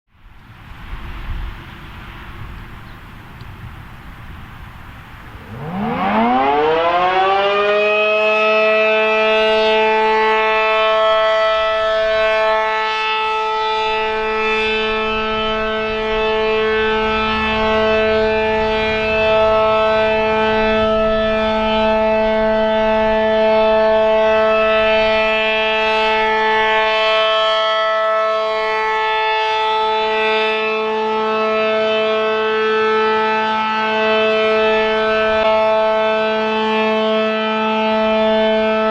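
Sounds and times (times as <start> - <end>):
warning siren two-tone wail: 5.2 - 38.9.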